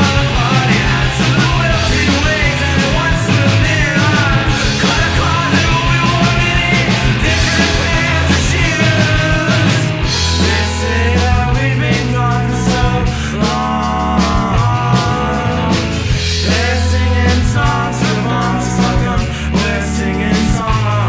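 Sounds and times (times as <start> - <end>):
person singing: 0.0 - 21.0
rock band playing: 0.0 - 21.0.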